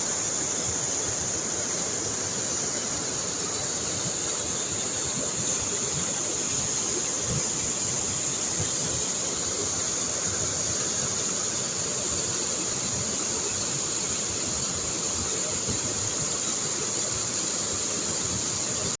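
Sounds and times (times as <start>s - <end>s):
high-pitched hiss: 0.0s - 19.0s
rushing water: 0.0s - 19.0s.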